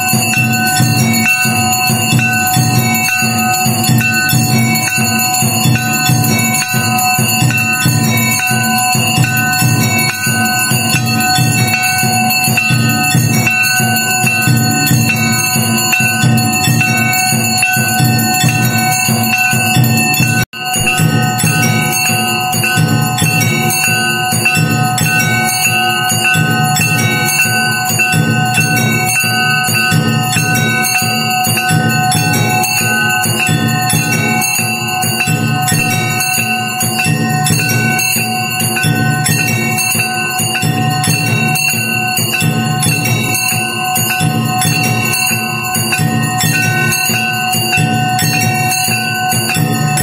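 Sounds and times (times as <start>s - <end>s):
fast steady drumming: 0.0s - 50.0s
temple bells ringing: 0.0s - 50.0s.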